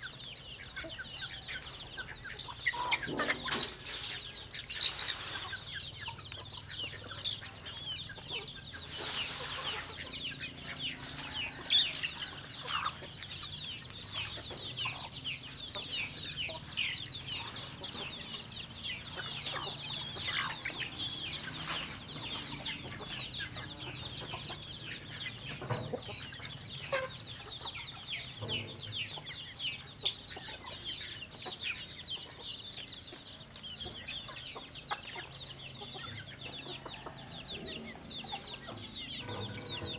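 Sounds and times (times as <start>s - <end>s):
chickens clucking and peeping: 0.0s - 39.9s.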